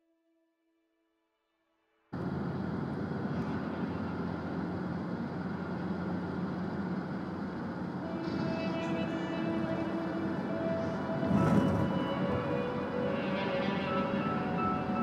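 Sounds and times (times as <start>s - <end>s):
bus engine and road noise: 2.1s - 15.0s.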